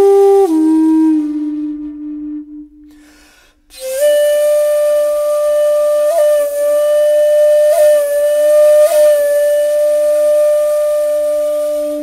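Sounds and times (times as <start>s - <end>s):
bamboo flute long high note: 0.0s - 3.1s, 3.7s - 12.0s.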